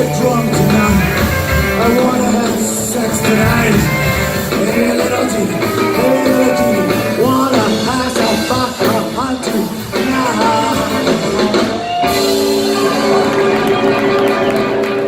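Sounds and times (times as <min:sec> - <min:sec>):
person singing: 0:00.0 - 0:15.0
rockabilly band music: 0:00.0 - 0:15.0.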